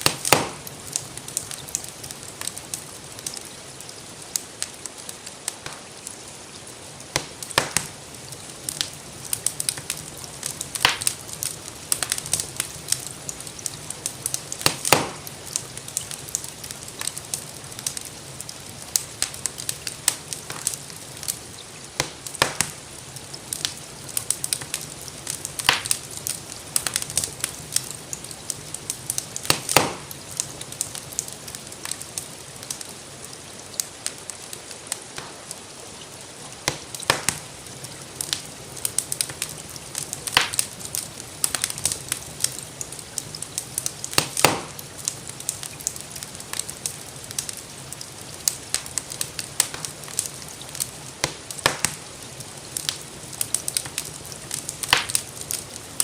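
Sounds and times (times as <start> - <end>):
fire sharp pops: 0.0 - 56.0
gentle rain hiss: 0.0 - 56.0
wood fire crackling: 0.0 - 56.0.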